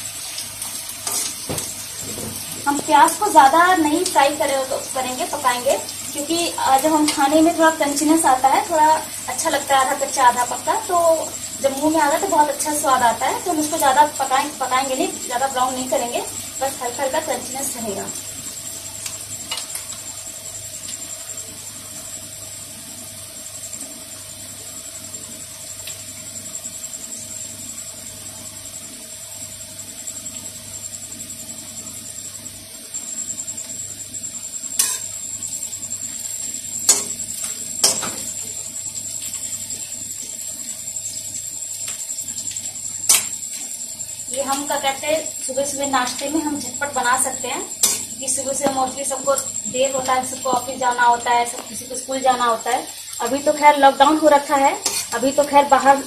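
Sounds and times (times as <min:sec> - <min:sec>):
onion and tomato frying in oil: 0:00.0 - 0:56.0.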